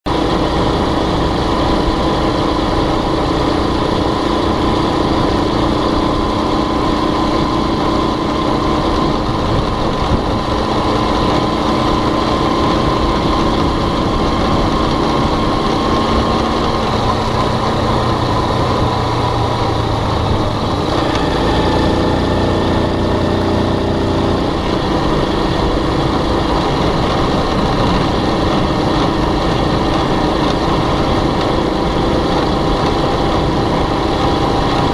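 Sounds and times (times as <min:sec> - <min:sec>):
ride noise: 0:00.1 - 0:34.9
small motorbike engine running: 0:00.1 - 0:34.9.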